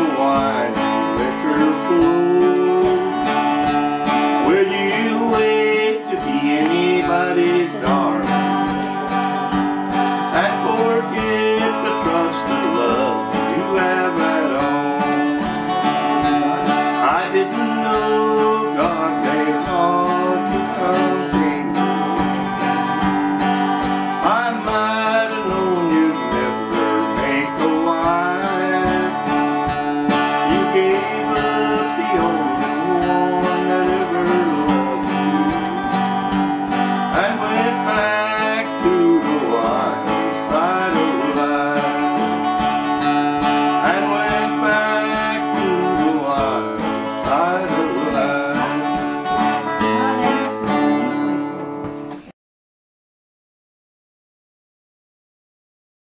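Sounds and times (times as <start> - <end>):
acoustic guitar playing: 0.0 - 52.3.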